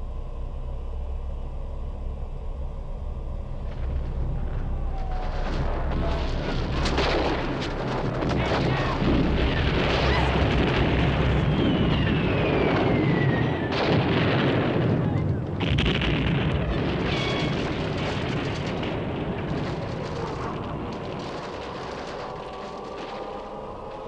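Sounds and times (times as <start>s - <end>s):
dense rumbling noise: 0.0s - 24.0s.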